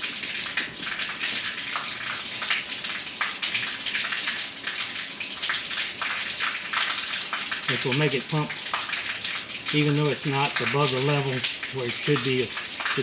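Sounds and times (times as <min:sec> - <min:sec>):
water spattering and splashing: 0:00.0 - 0:13.0.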